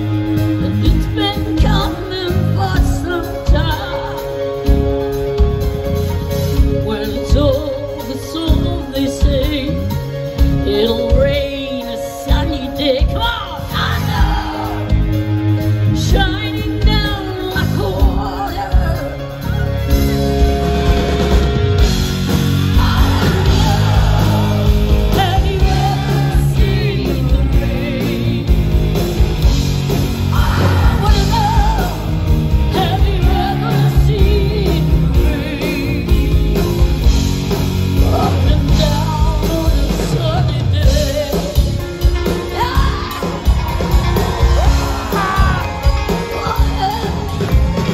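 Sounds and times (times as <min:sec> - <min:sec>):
woman singing lead: 0:00.0 - 0:37.2, 0:38.0 - 0:47.9
live rock band playing: 0:00.0 - 0:47.9.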